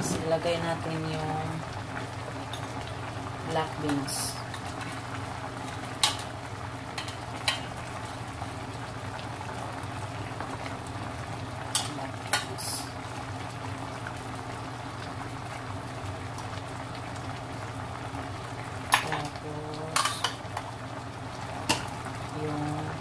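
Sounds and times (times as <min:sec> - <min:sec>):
low steady hum: 0:00.0 - 0:23.0
stew bubbling in pot: 0:00.0 - 0:23.0.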